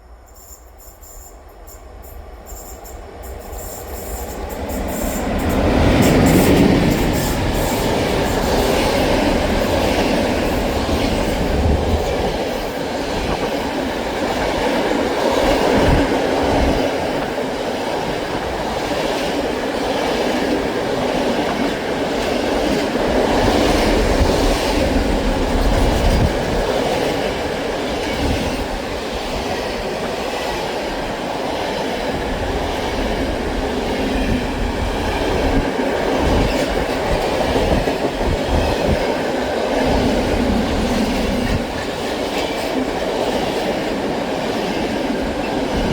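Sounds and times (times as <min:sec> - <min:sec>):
train wheels clacking on rails: 0:00.4 - 0:45.9.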